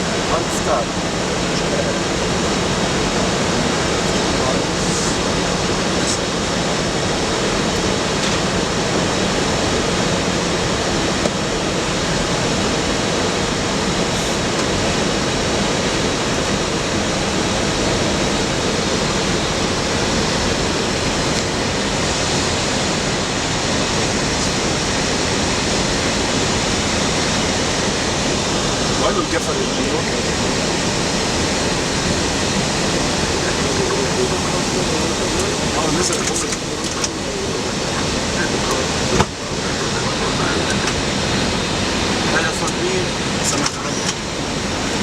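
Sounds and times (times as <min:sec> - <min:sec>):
air-conditioning hiss: 0:00.0 - 0:45.0
cockpit airflow rushing: 0:00.0 - 0:45.0.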